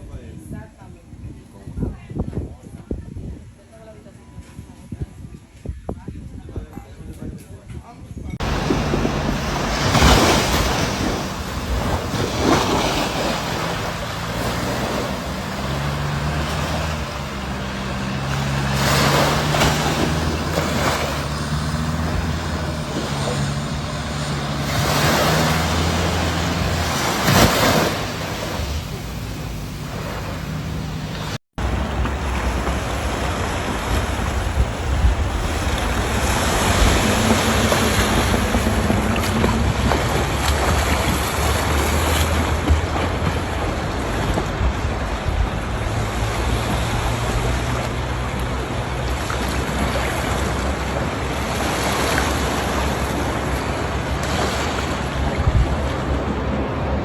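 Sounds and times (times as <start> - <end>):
wind buffeting microphone: 0.0 - 57.0
ocean waves breaking: 8.4 - 57.0.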